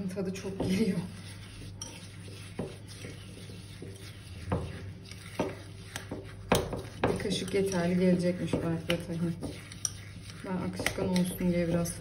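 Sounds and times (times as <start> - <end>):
spoon stirring thick paste: 0.0 - 12.0.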